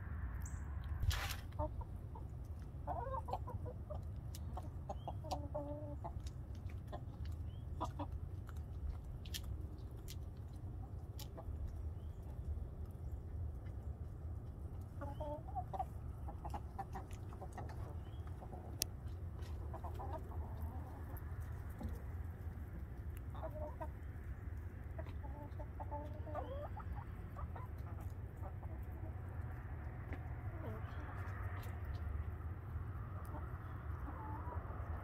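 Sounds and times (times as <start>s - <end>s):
hens clucking: 1.2s - 35.0s.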